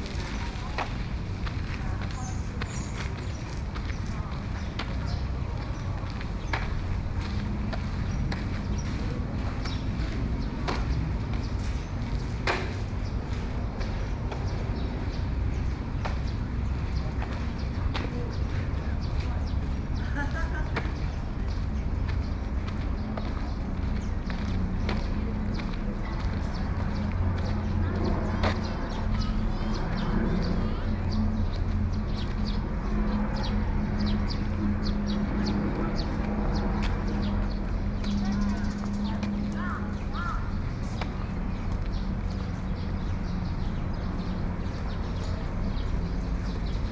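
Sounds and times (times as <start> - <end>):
footsteps on footbridge: 0.0 - 46.9
small birds chirping: 0.0 - 46.9
steady low hum: 0.0 - 46.9
steady low rumble: 0.0 - 46.9.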